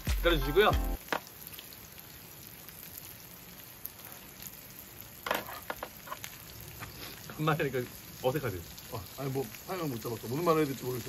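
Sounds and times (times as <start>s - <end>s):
meat sizzling in a grill pan: 0.0s - 11.0s.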